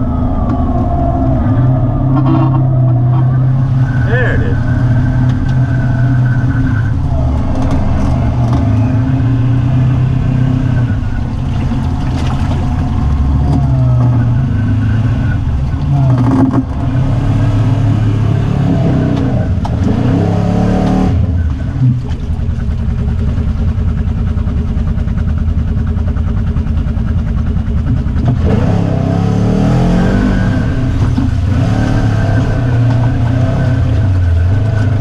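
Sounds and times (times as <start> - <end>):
atv engine revving in mud: 0.0 - 24.8, 26.2 - 35.0.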